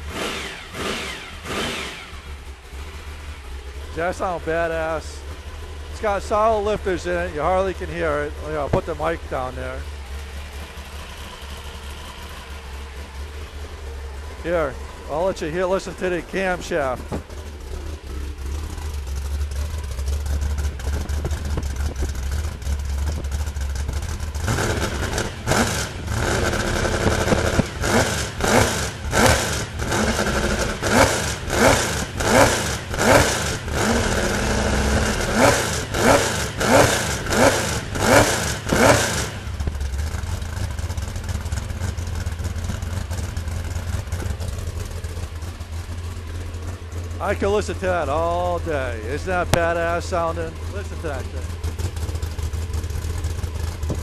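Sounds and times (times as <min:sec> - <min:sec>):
engine idling with a lope: 0:00.0 - 0:54.0
engine throttle blips: 0:00.0 - 0:54.0.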